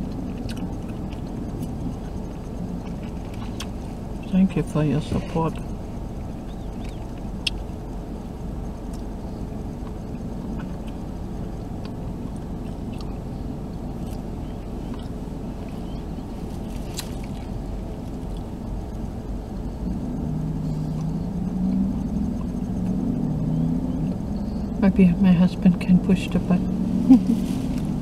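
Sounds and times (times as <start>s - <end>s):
car cabin running hum: 0.0s - 28.0s.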